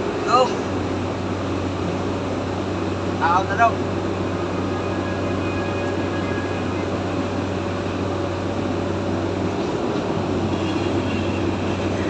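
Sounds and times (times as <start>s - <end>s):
low mechanical hum: 0.0s - 12.0s
rushing background noise: 0.0s - 12.0s.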